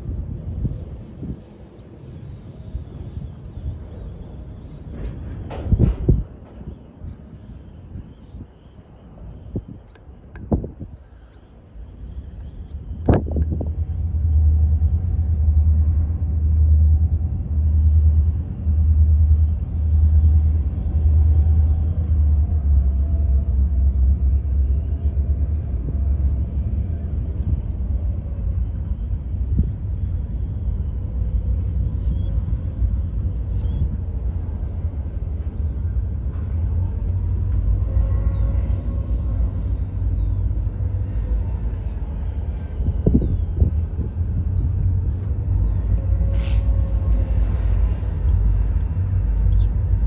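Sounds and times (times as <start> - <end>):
freight train rumble: 0.0 - 50.0.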